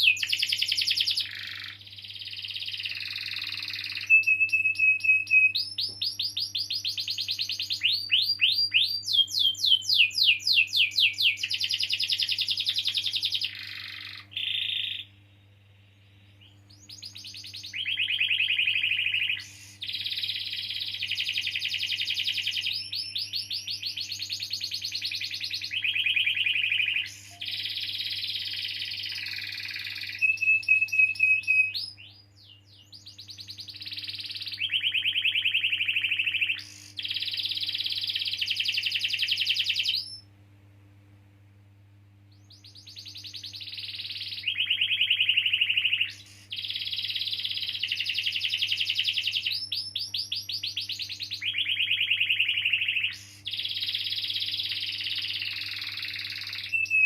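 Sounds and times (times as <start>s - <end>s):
canary singing rolling trills: 0.0s - 40.3s, 42.3s - 57.0s
faint low hum: 0.0s - 57.0s.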